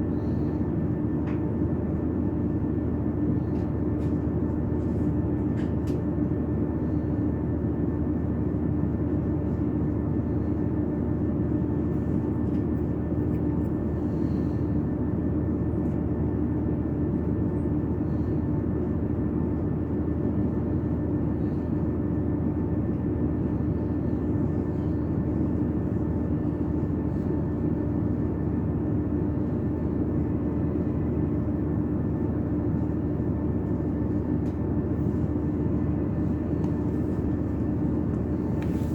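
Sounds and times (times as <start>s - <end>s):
train rumble inside carriage: 0.0s - 38.9s.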